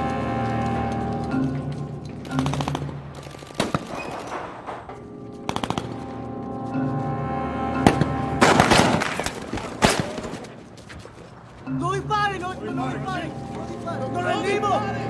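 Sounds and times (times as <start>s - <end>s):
music score: 0.0s - 3.7s, 4.7s - 15.0s.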